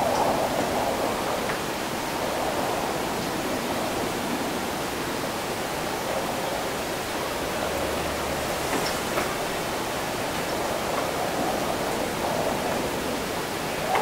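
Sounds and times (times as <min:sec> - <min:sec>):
wet street noise: 0:00.0 - 0:14.0
wind: 0:00.0 - 0:14.0.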